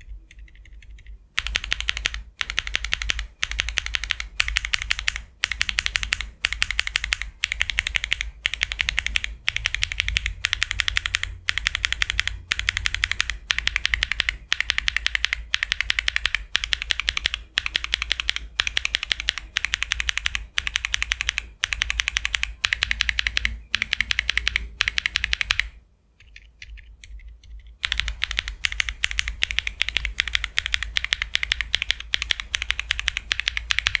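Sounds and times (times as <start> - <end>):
fast mechanical keyboard typing: 0.0 - 34.0.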